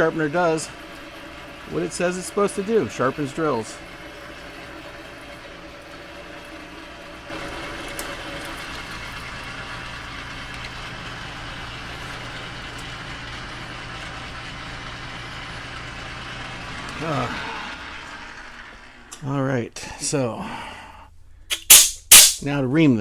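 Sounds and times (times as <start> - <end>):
machine spindle humming: 0.0 - 19.4.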